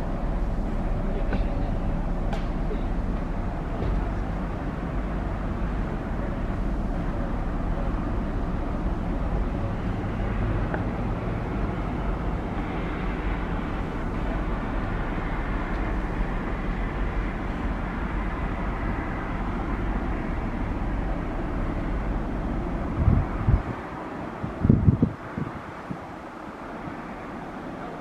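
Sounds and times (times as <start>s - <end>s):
constant rushing noise: 0.0s - 28.0s
diesel engines droning: 0.0s - 28.0s.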